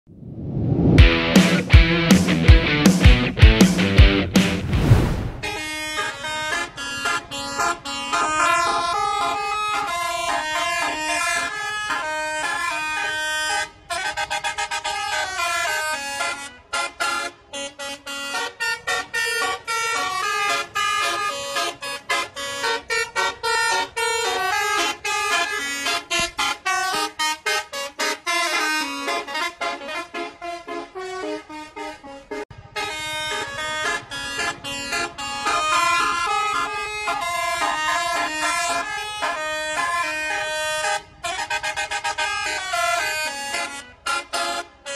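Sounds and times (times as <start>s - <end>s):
multi-tone bus horn tune: 5.4s - 44.9s.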